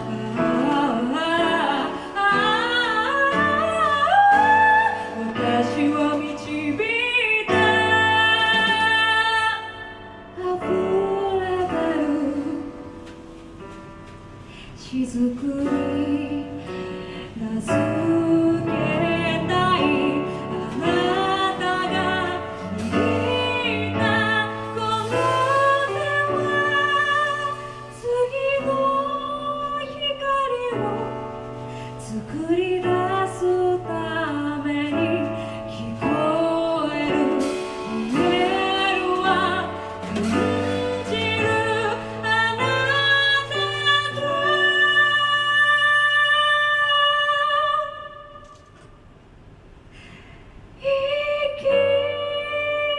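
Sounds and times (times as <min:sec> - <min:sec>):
woman singing: 0:00.0 - 0:13.2, 0:14.5 - 0:48.6, 0:50.8 - 0:52.9
drums: 0:00.0 - 0:45.8
piano: 0:00.0 - 0:52.9.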